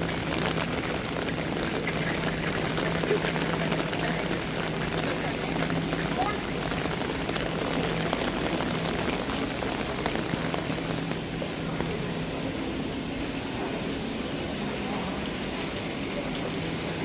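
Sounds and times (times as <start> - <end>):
rain on hard surfaces: 0.0 - 17.0.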